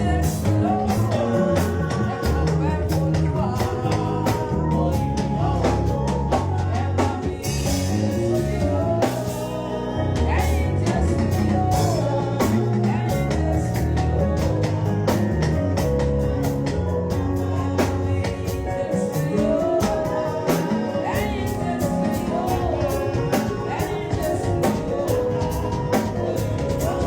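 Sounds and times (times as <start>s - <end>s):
drum kit beat: 0.0s - 27.0s
live band playing: 0.0s - 27.0s
person singing: 0.0s - 27.0s.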